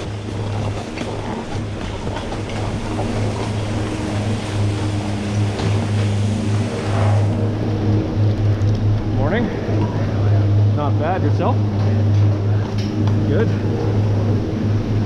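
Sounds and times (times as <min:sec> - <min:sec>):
continuous rushing noise: 0:00.0 - 0:15.0
low mechanical hum: 0:00.0 - 0:15.0.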